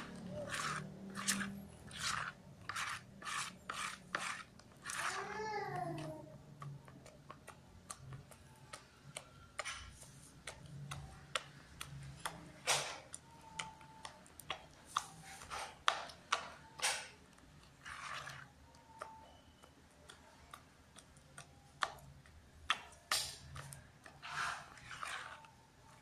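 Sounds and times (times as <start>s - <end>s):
batter stirred by hand in bowl: 0.0s - 26.0s.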